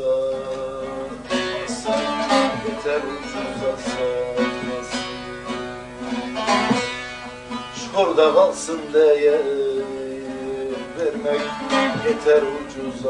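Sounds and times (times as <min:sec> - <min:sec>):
plucked saz folk melody: 0:00.0 - 0:13.0.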